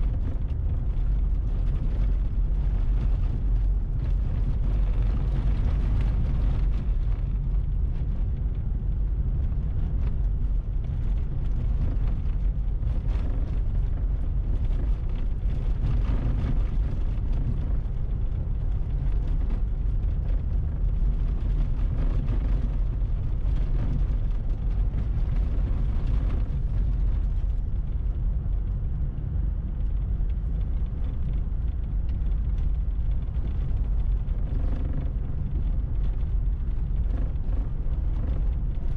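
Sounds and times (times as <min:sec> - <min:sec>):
vehicle driving on snow: 0:00.0 - 0:38.9.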